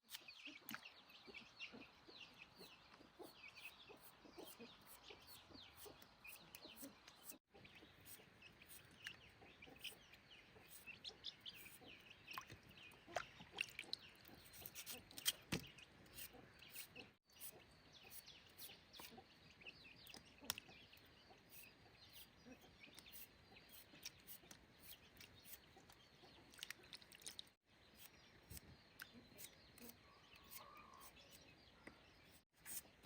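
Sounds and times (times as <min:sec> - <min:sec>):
birds chirping and clucking: 0:00.1 - 0:33.0.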